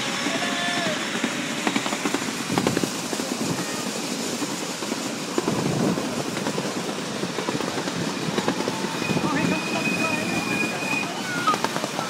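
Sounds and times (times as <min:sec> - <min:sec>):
miniature train rumbling: 0:00.0 - 0:12.0
wheels clicking on track: 0:00.0 - 0:12.0.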